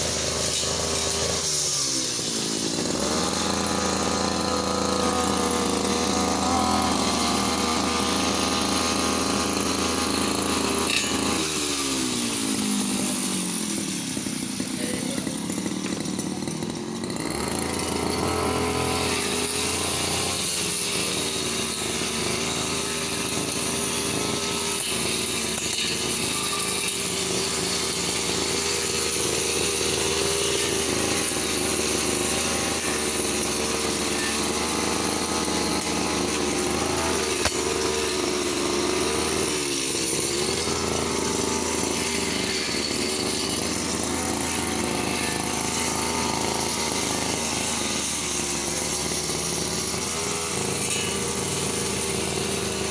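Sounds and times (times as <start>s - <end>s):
brush cutter engine running: 0.0s - 52.9s.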